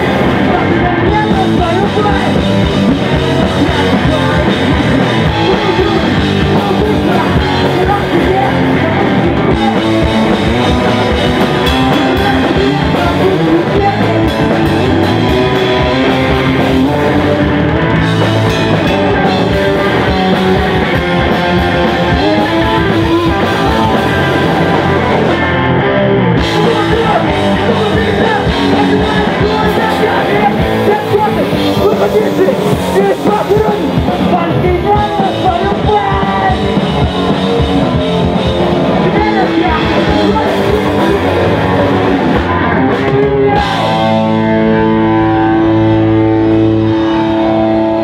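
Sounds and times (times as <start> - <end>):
person singing: 0.0 - 25.5, 26.4 - 48.0
drum kit: 0.0 - 48.0
electric guitars: 0.0 - 48.0.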